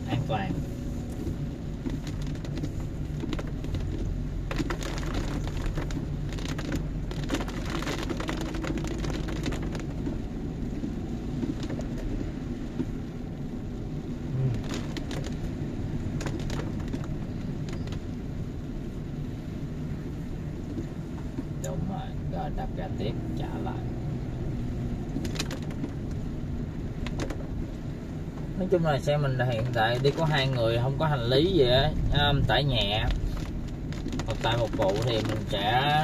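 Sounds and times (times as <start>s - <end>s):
car engine and tyre rumble: 0.0s - 36.0s
rain on a car: 0.0s - 36.0s.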